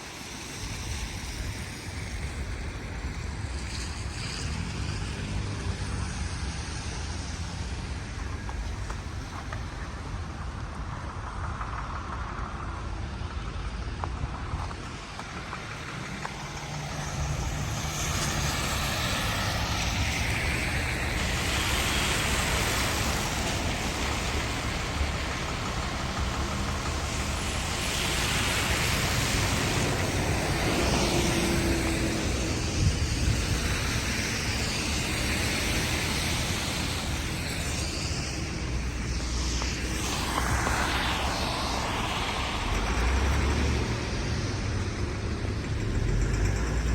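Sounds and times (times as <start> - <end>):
passing vehicles rushing: 0.0 - 46.9.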